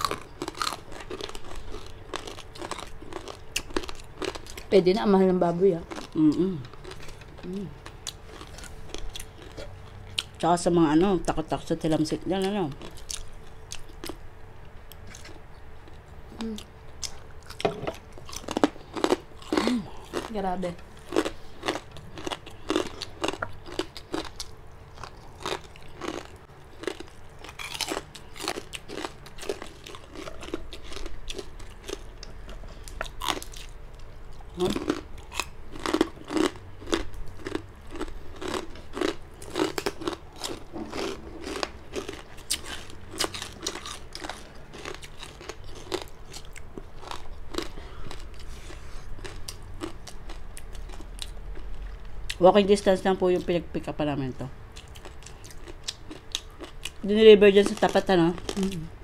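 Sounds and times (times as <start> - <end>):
people crunching crispy food: 0.0 - 5.1, 5.8 - 10.4, 16.4 - 52.4, 54.7 - 57.0, 57.6 - 59.0.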